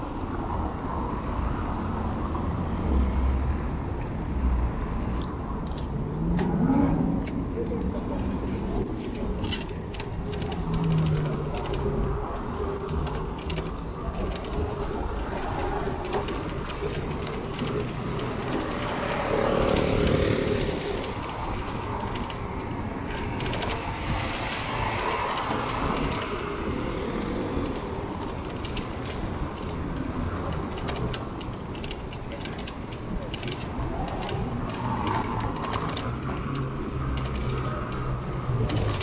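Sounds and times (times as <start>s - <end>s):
street traffic passing: 0.0s - 39.0s
wind rumble on microphone: 0.0s - 39.0s.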